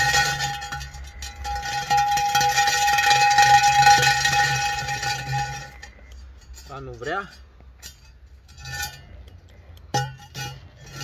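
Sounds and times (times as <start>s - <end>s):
metallic ringing tone: 0.0s - 9.2s
drill bit chattering on concrete: 0.0s - 11.0s.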